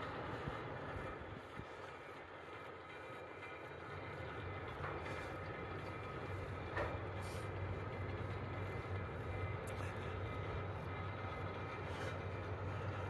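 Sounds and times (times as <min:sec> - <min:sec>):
funicular low hum: 0:00.0 - 0:13.0.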